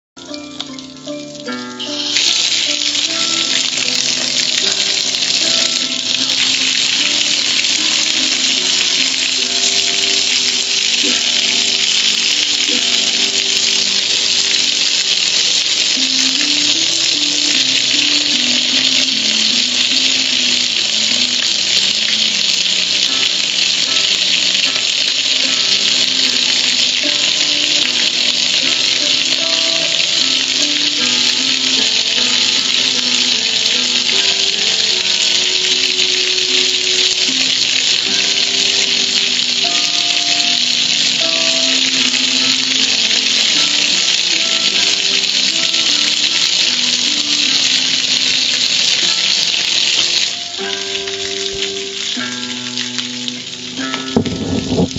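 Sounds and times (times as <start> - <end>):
music playing: 0.0 - 54.9
water splashing over metal grill: 1.8 - 54.9.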